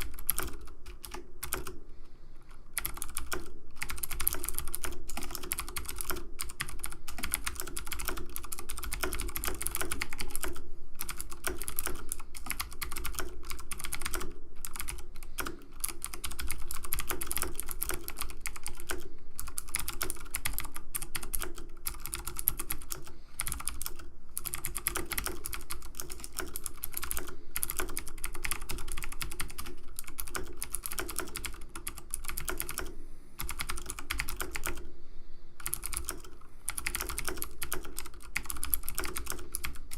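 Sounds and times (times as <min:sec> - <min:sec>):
keyboard typing clicks: 0:00.0 - 0:01.8, 0:02.8 - 0:34.8, 0:35.6 - 0:39.9.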